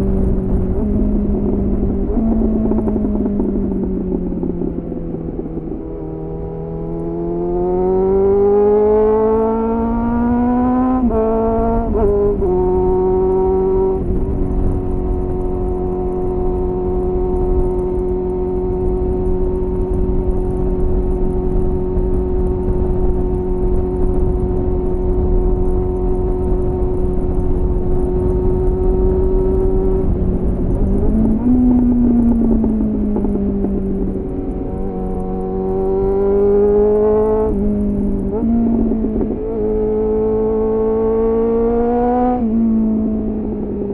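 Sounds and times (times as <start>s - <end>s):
motorcycle engine revving: 0.0s - 43.9s
wind and road rumble: 0.0s - 43.9s.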